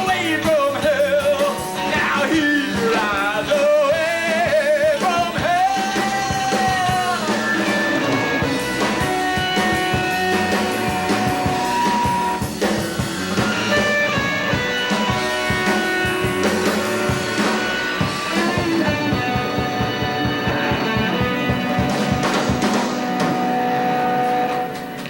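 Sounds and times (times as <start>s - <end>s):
bass guitar: 0.0s - 25.0s
electric guitar: 0.0s - 25.0s
drum beat: 2.6s - 23.6s.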